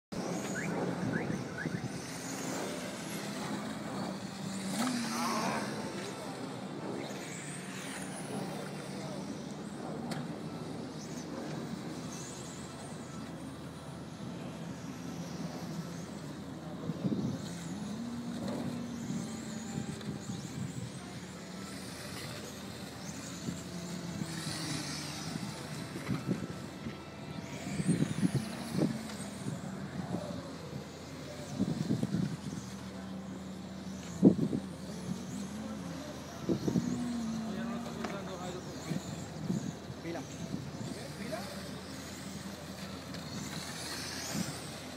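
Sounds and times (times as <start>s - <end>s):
low background drone: 0.1s - 44.9s
rc cars whining electric motors: 0.1s - 44.9s.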